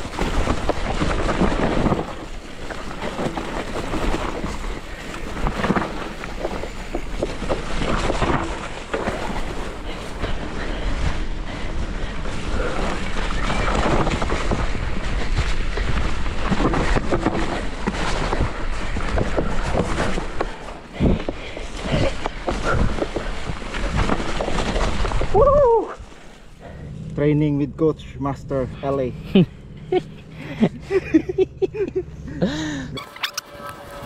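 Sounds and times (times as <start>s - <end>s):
bike knocking and rattling: 0.0s - 34.0s.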